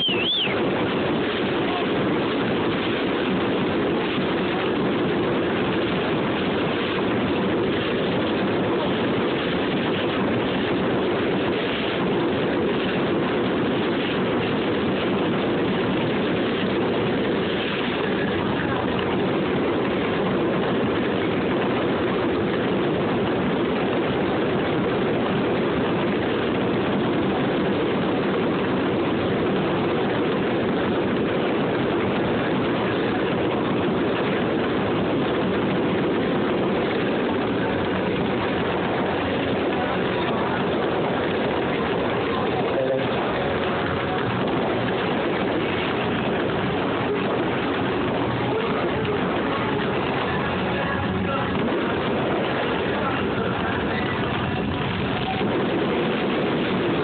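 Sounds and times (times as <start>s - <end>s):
fountain fireworks hissing: 0.0s - 57.0s.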